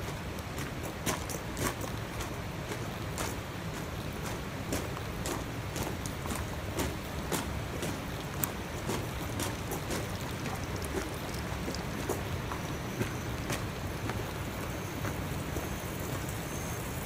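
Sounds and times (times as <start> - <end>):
footsteps walking: 0.0 - 16.2.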